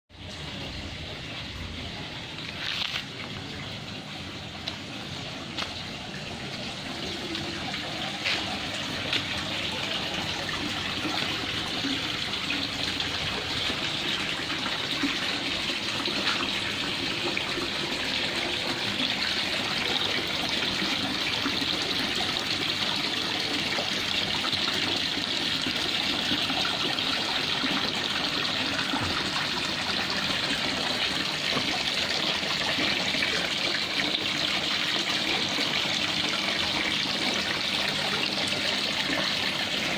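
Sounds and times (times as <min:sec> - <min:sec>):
water pouring and splashing: 0:00.2 - 0:39.9.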